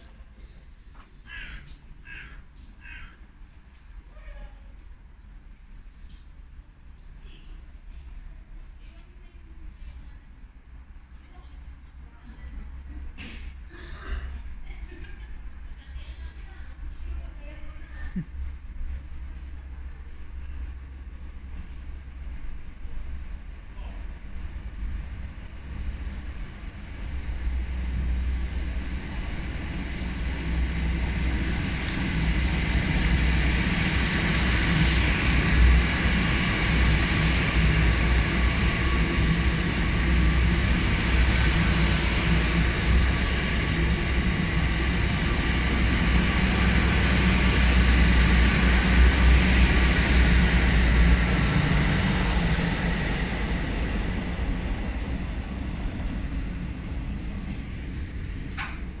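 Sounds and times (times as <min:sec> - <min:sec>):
train passing through station: 0:00.0 - 0:59.0.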